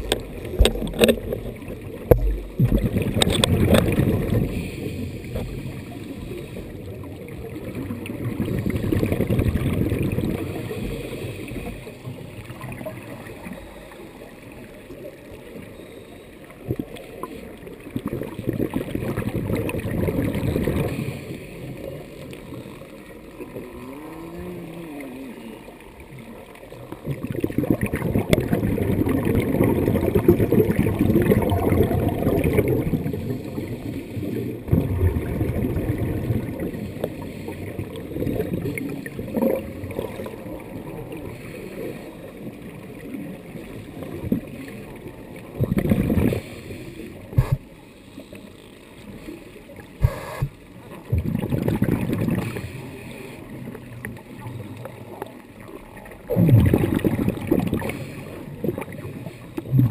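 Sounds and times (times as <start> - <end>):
underwater bubbles gurgling: 0.0 - 59.9.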